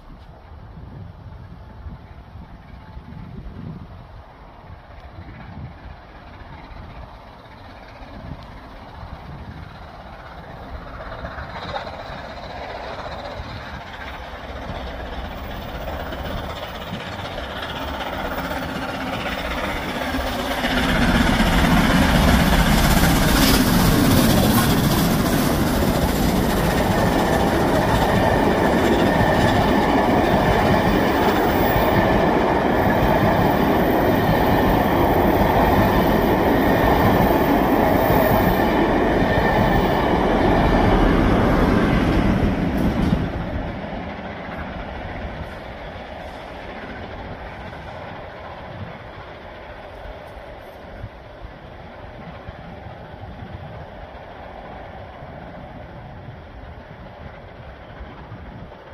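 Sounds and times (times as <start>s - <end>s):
steam locomotive working hard: 0.0s - 58.9s
train coaches rolling past: 0.0s - 58.9s.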